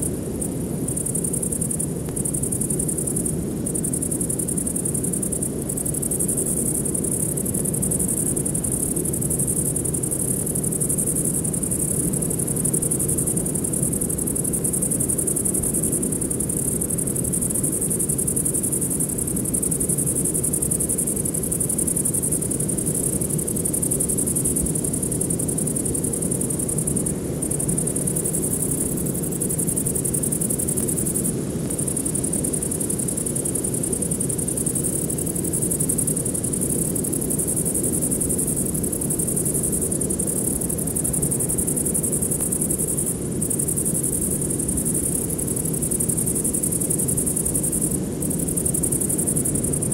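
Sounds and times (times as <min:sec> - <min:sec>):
insect chorus chirring: 0:00.0 - 0:49.9.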